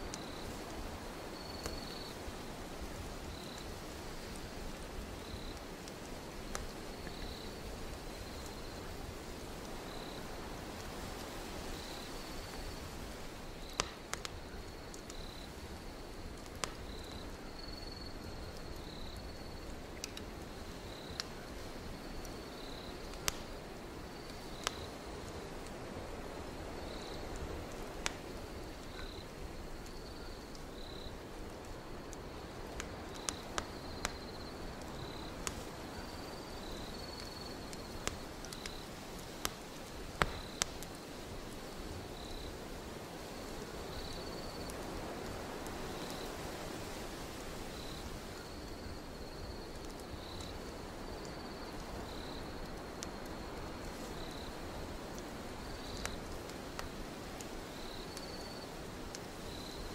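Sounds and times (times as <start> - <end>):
crickets chirping: 0.0 - 59.9
wood fire crackling and popping: 0.0 - 59.9.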